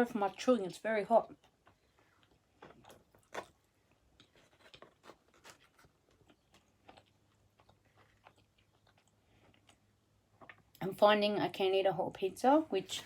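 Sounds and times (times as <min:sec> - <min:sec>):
faint chewing: 0:00.3 - 0:10.9.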